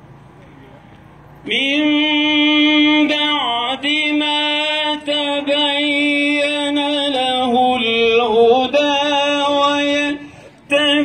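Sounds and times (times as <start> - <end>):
man reciting melodically: 1.4 - 11.0.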